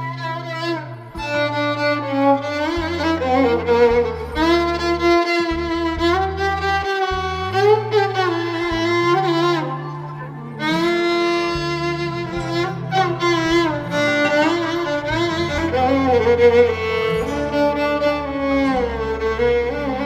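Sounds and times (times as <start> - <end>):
sustained low bass: 0.0 - 20.0
violin melody: 0.0 - 20.0.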